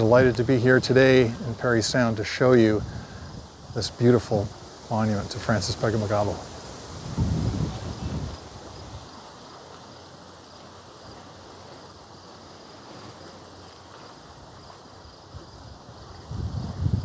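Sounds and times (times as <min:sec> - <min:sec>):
faint insect chirping: 0:00.0 - 0:17.0
steady hiss: 0:00.0 - 0:17.0.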